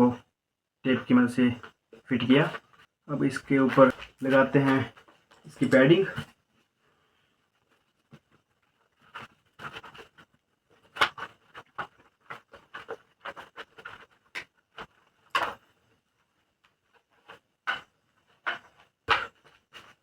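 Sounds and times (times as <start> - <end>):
padding rubbing and scraping: 1.6 - 6.4, 7.6 - 20.0.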